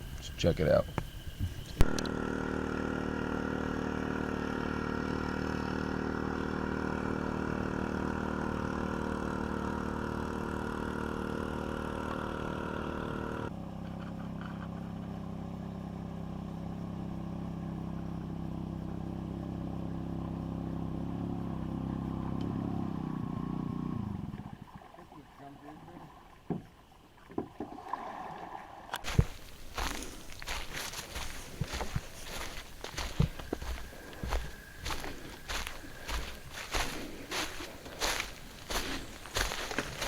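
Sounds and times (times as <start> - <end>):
outboard motor running: 0.0 - 24.8, 29.0 - 40.0.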